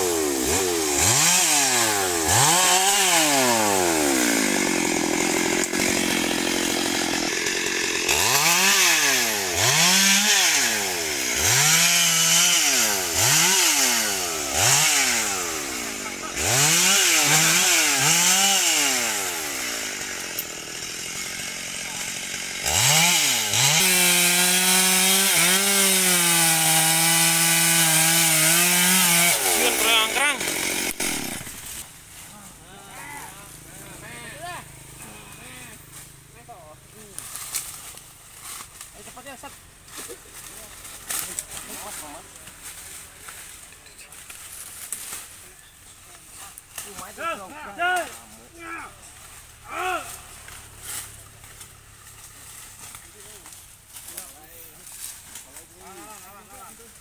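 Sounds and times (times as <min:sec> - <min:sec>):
chainsaw revving and cutting wood: 0:00.0 - 0:45.4, 0:46.2 - 0:57.0.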